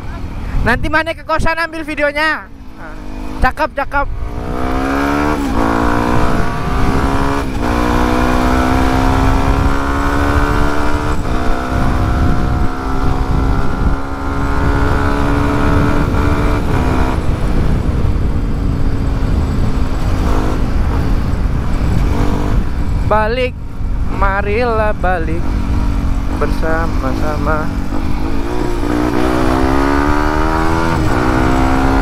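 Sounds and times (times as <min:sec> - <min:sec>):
wind buffeting microphone: 0:00.0 - 0:32.0
motorcycle engine accelerating: 0:02.6 - 0:32.0.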